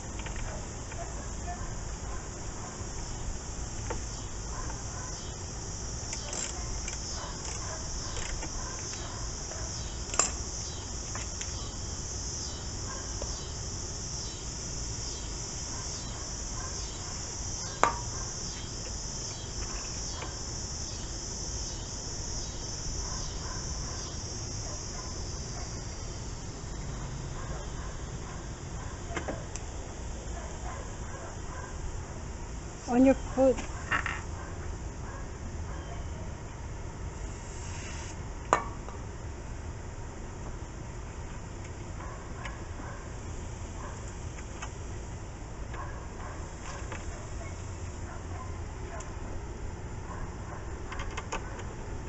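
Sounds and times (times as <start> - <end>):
insect chirping: 0.0 - 39.6, 41.9 - 52.0.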